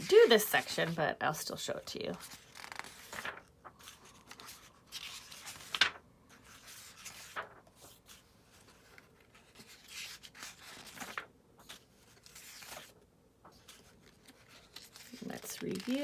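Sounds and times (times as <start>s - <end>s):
book pages turning: 0.0s - 1.0s, 2.1s - 16.0s.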